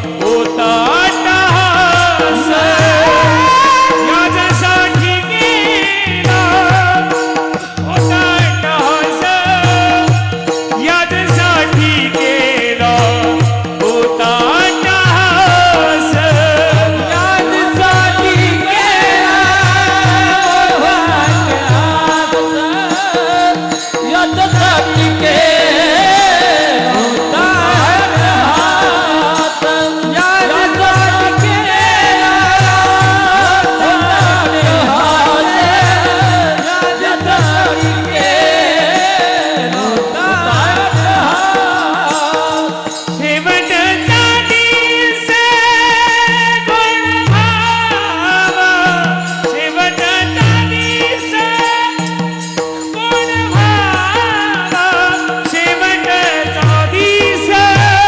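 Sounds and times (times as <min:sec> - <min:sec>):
man singing devotional song: 0:00.0 - 0:58.0
repeating drum beat: 0:00.0 - 0:58.0.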